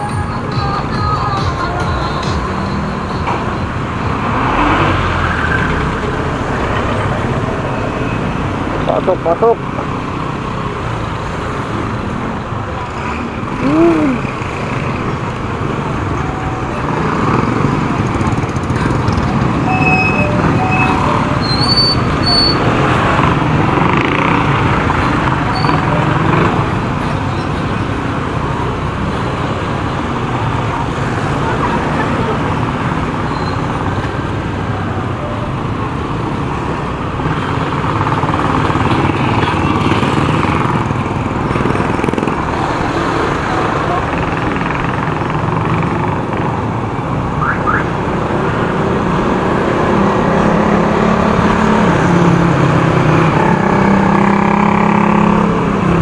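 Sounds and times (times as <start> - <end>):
traffic vehicles: 0.0 - 56.0
motorcycle engine: 2.2 - 27.1, 28.2 - 56.0.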